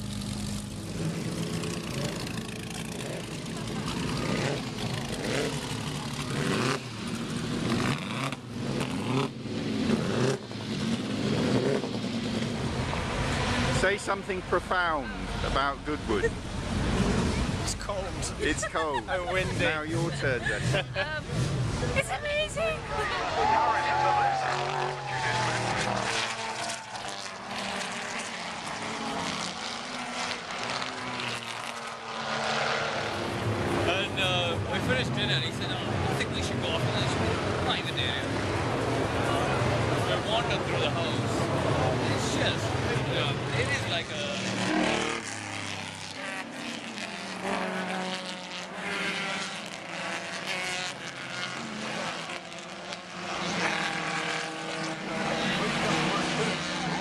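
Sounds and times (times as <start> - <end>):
racing car engines droning: 0.0 - 57.0.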